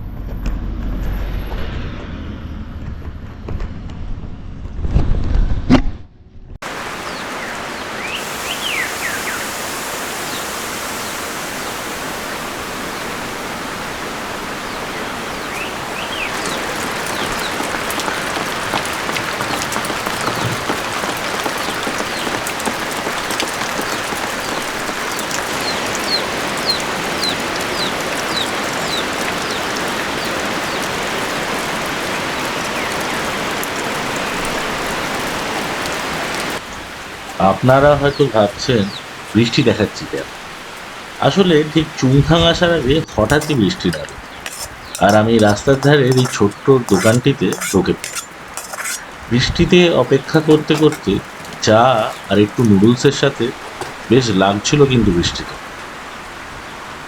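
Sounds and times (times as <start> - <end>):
steady rain falling: 6.6 - 57.0.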